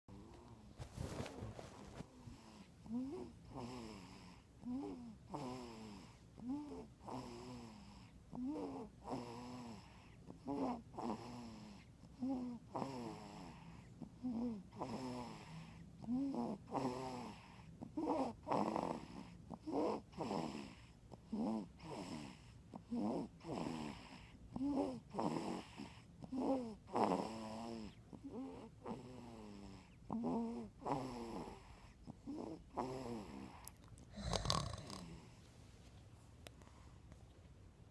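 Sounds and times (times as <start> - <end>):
snoring: 2.2 - 35.4.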